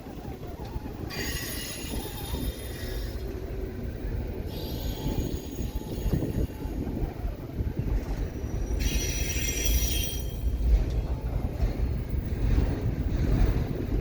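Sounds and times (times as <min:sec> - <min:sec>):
train cars rumbling past: 0:00.0 - 0:14.0
train wheel squeal: 0:00.0 - 0:14.0.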